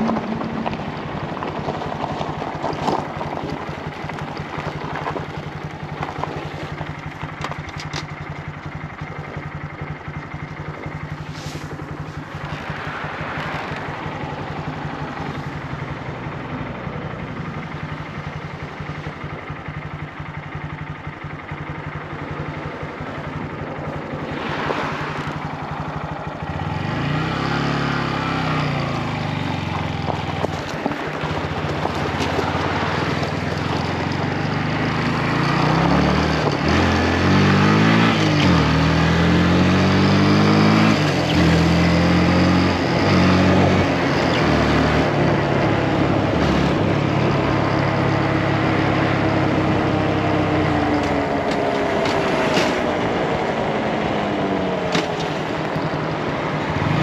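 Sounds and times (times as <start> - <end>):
motorcycle engine revving: 0.0 - 57.0
road noise: 0.0 - 57.0.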